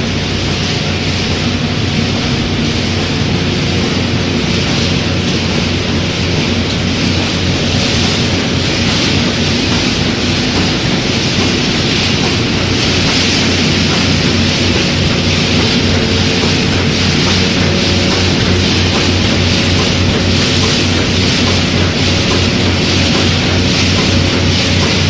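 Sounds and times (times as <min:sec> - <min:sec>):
low electrical hum: 0:00.0 - 0:24.7
welding machine mechanical din: 0:00.0 - 0:25.0.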